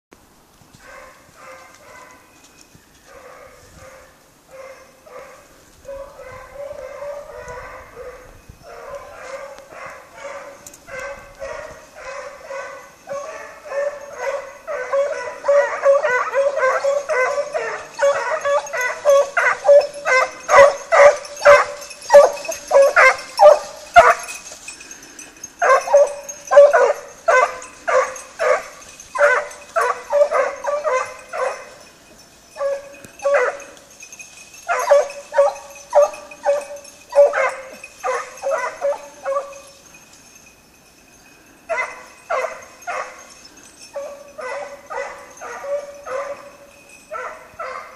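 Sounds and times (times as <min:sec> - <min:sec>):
hounds baying: 0:00.8 - 0:02.3, 0:03.0 - 0:40.5, 0:41.3 - 0:47.9.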